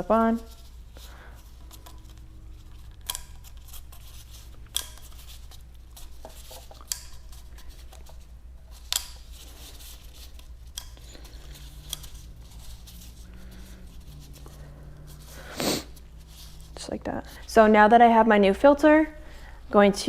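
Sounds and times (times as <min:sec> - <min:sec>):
hands rustling: 0:00.0 - 0:17.7
steady low hum: 0:00.0 - 0:20.0.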